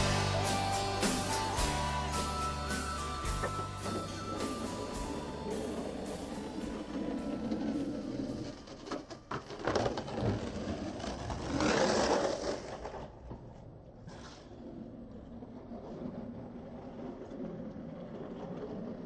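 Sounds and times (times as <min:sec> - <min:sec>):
skateboard clacks: 0:00.0 - 0:19.0
skateboard wheels on rough asphalt: 0:00.0 - 0:19.0.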